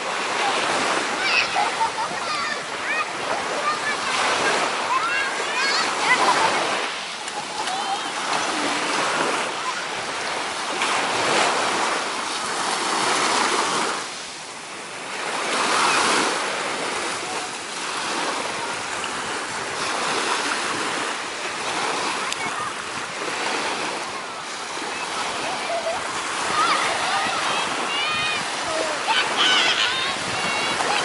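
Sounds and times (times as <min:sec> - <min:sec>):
small waves breaking on beach: 0:00.0 - 0:31.0.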